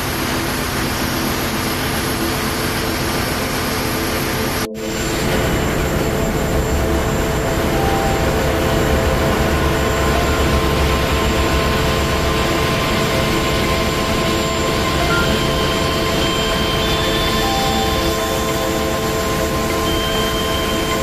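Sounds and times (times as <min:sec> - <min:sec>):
engine-room machinery droning: 0:00.0 - 0:21.0.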